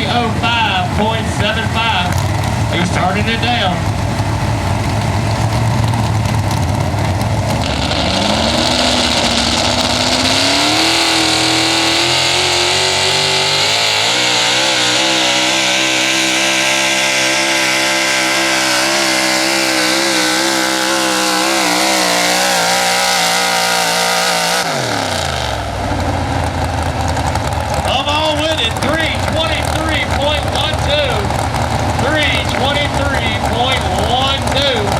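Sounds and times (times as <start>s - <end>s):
truck engine revving at full throttle: 0.0s - 34.9s.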